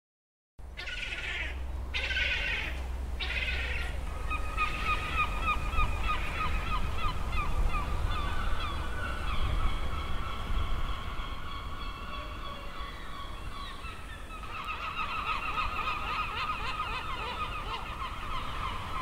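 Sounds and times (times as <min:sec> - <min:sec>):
honking bird calls: 0:00.8 - 0:19.0.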